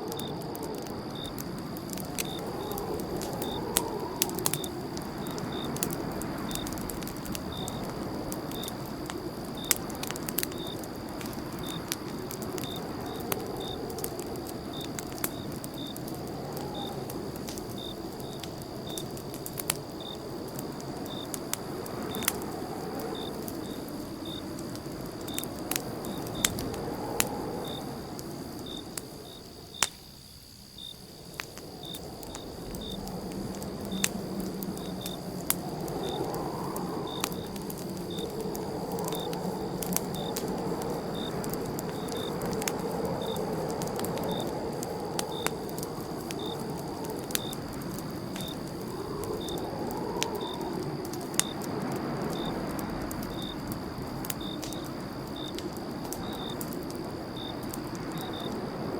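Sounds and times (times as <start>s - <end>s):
campfire crackling and popping: 0.0s - 58.9s
cricket chirping: 0.0s - 58.9s.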